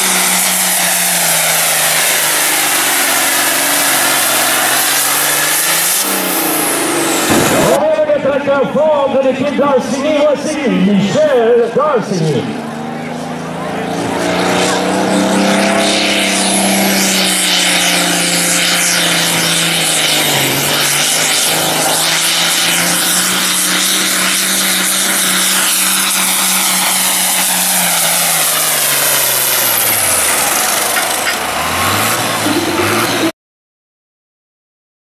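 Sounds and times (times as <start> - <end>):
tractor diesel engine under load: 0.0 - 33.4.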